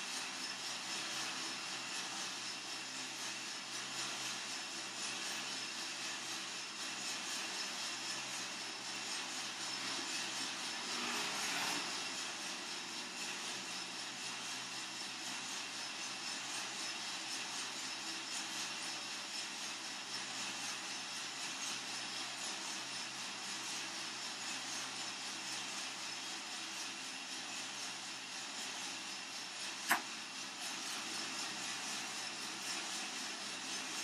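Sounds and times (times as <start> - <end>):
coffee roaster drum and fan: 0.0 - 34.0.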